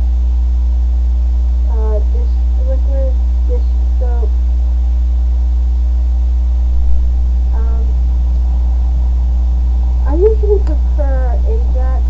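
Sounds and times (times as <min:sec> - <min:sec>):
faint steady tones: 0:00.0 - 0:12.0
loud low hum: 0:00.0 - 0:12.0.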